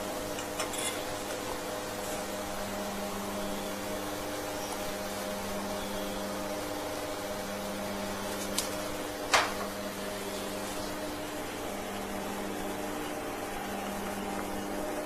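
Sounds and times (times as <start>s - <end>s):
sealing machine humming: 0.0s - 15.0s.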